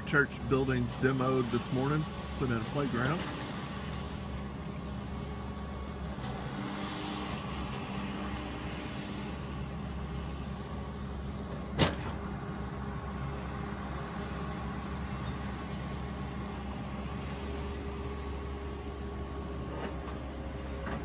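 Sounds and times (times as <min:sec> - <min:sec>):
machine engine humming: 0:00.0 - 0:21.0.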